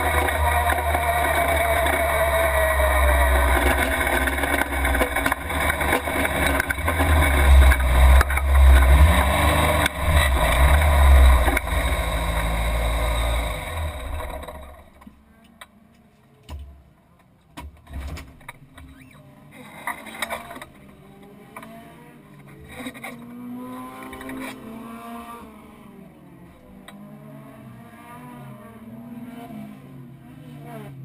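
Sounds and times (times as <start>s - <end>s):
race car engine: 0.0s - 16.4s, 18.2s - 31.0s.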